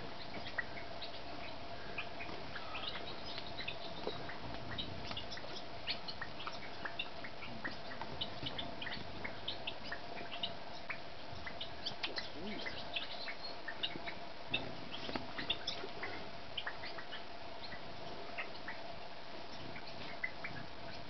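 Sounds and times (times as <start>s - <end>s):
birds ticking and chipping: 0.0s - 21.0s
faint steady hum: 0.0s - 21.0s.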